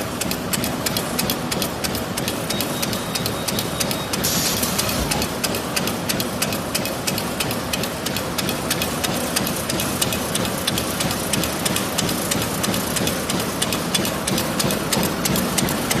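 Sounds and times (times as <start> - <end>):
machine rapid regular clicking: 0.0 - 16.0
mechanical hum: 0.0 - 16.0.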